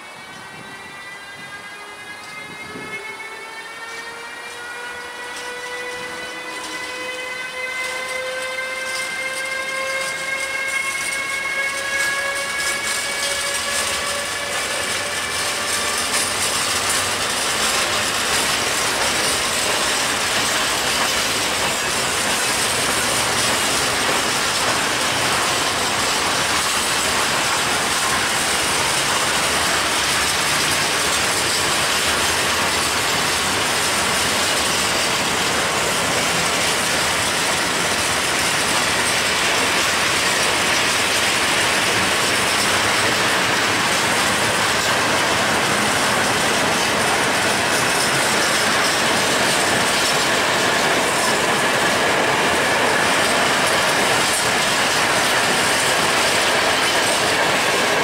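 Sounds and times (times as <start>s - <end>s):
electric locomotive traction whine: 0.0s - 58.0s
freight wagons rolling past: 11.6s - 58.0s.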